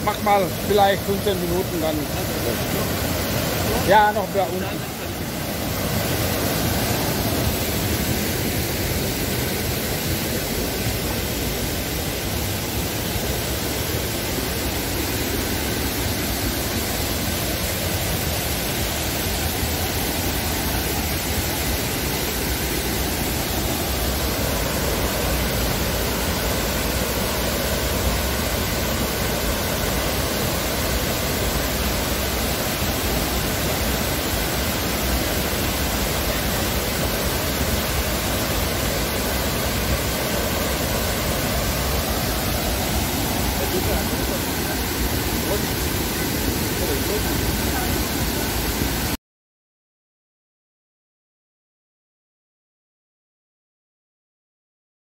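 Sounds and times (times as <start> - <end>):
waterfall rushing: 0.0 - 49.2.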